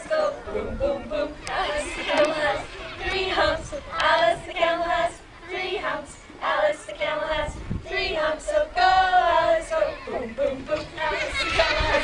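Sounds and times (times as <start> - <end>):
children and adults singing: 0.0 - 12.0.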